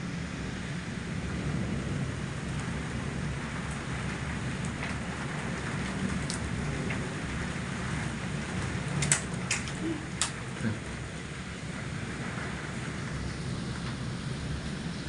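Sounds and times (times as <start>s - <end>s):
steady rain: 0.0s - 15.0s
thunder rumble: 0.0s - 15.0s.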